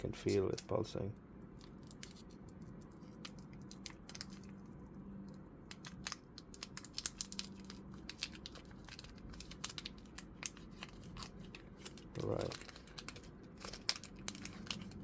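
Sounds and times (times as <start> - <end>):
plastic packaging crinkling: 1.4 - 15.0.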